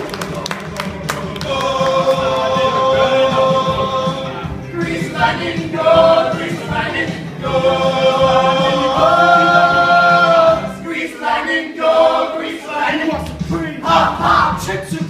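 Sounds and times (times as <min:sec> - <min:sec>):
backing music: 0:00.0 - 0:15.0
young voices singing together: 0:00.0 - 0:15.0.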